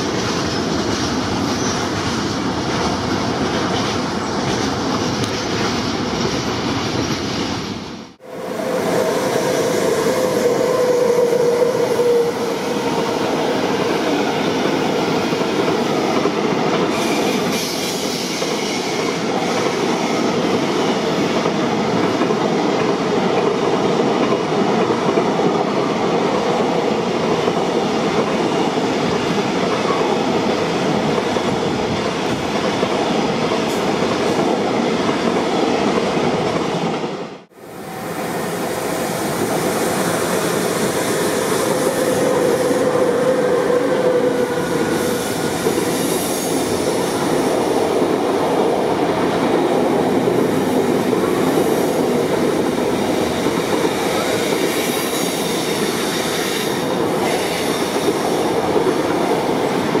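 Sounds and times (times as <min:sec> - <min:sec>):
freight train wheels rumbling: 0:00.0 - 1:00.0.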